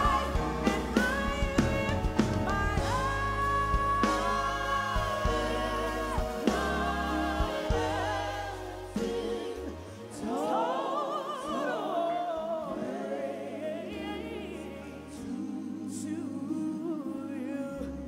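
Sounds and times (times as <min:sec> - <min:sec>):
women singing gospel: 0:00.0 - 0:18.0.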